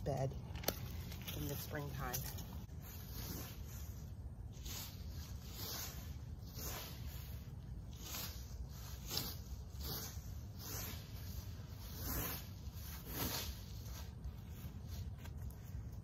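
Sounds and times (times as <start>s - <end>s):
rake scraping through dry leaves: 0.0s - 16.0s.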